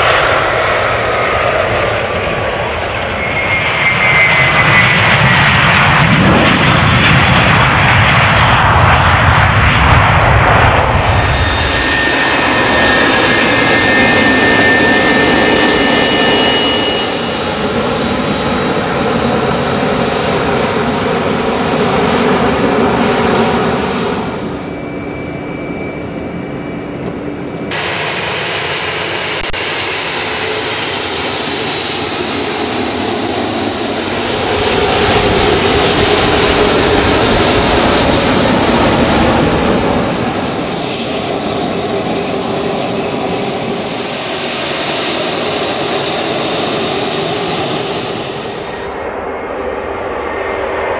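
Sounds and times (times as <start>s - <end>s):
high engine whine: 0.0s - 50.9s
jet engines rumbling: 0.0s - 50.9s.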